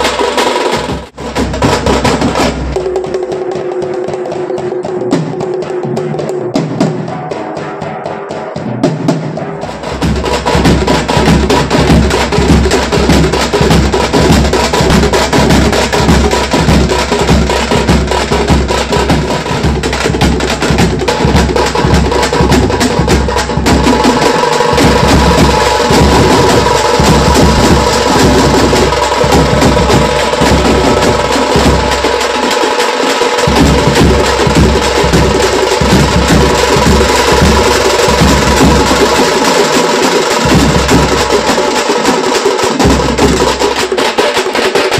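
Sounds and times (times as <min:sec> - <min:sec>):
frame drums beaten fast: 0:00.0 - 0:44.9.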